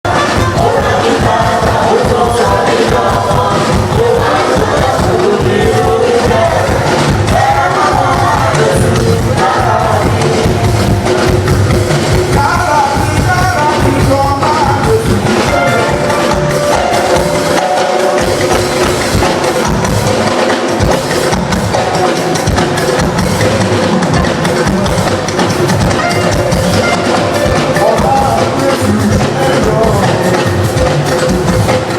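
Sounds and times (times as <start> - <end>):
drums and percussion: 0.0 - 31.9
people singing: 0.0 - 31.9.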